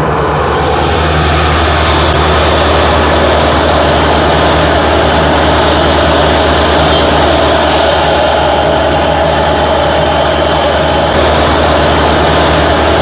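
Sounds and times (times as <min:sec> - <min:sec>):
heavy diesel engines droning: 0:00.0 - 0:13.0.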